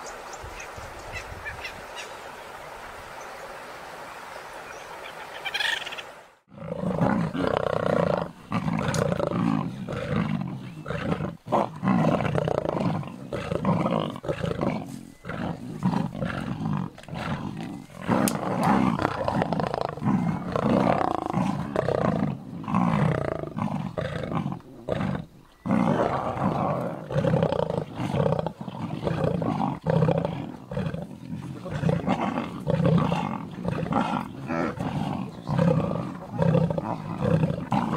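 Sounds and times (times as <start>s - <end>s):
lions snarling and growling: 6.5s - 37.9s.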